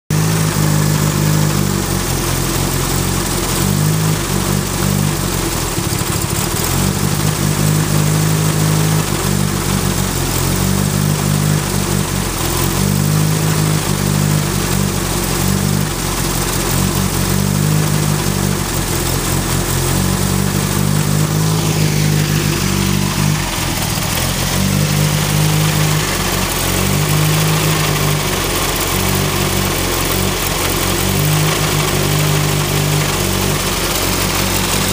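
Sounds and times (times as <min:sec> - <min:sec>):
car engine rough idle: 0:00.1 - 0:34.9.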